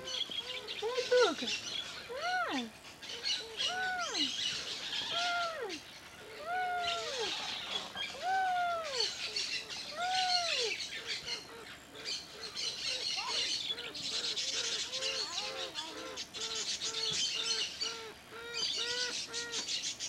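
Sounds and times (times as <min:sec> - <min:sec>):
animal calling: 0:00.0 - 0:19.7
birds chirping: 0:00.0 - 0:20.0.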